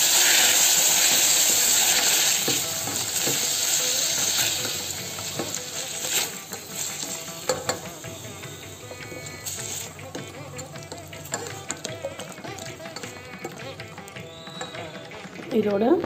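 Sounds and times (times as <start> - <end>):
vegetables sizzling in hot oil: 0.0 - 15.2
spatula scraping metal pot: 0.2 - 15.5.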